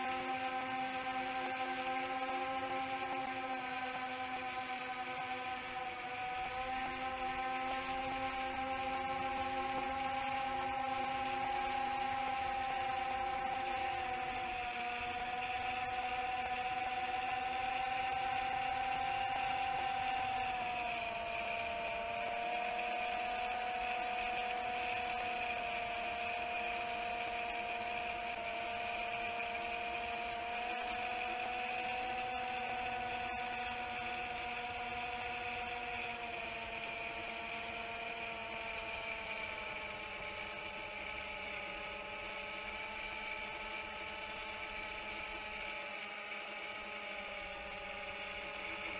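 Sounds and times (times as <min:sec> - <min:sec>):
drone motors whining: 0:00.0 - 0:48.9.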